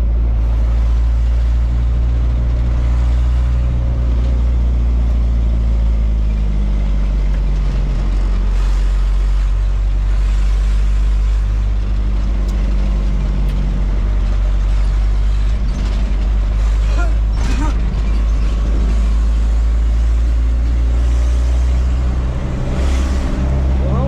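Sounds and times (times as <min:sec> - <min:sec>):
truck engine drone: 0:00.0 - 0:24.0
tyre and road noise: 0:00.0 - 0:24.0.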